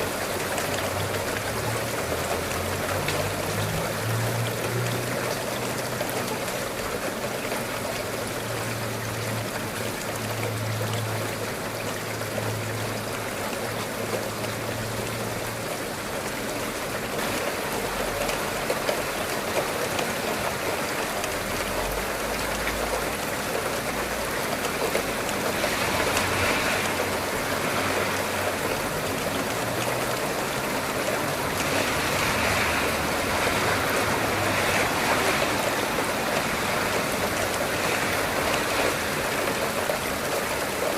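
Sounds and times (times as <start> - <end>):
steady rain hiss: 0.0 - 40.9
raindrop ticks: 0.1 - 40.9.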